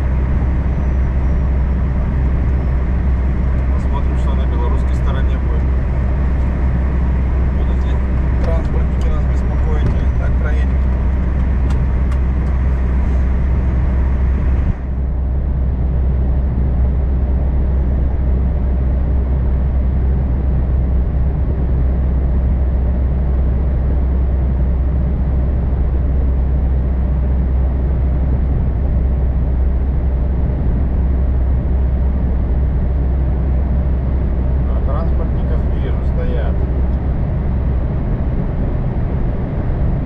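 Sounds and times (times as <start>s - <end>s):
heavy truck rumble: 0.0s - 40.0s.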